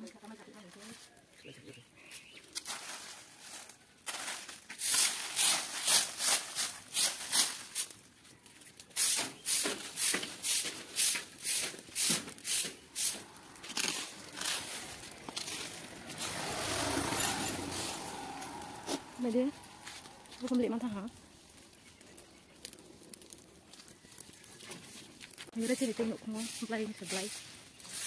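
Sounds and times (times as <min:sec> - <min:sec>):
dry leaves crackling: 0:00.0 - 0:28.0.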